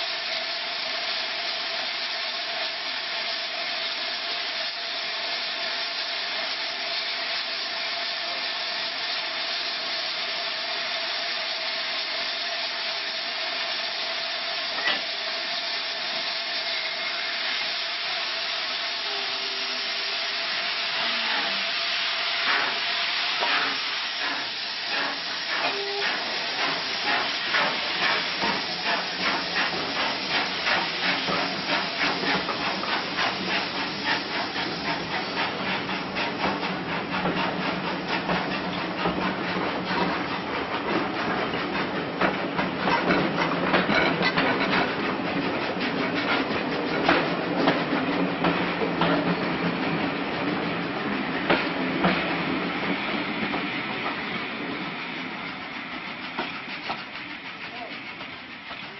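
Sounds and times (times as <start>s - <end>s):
steam locomotive hissing: 0.0s - 58.9s.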